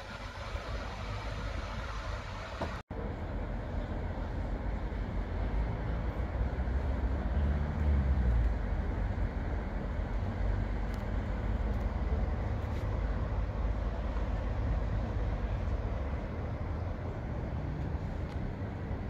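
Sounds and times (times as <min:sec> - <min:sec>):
train rumbling with light hiss: 0:00.0 - 0:19.0.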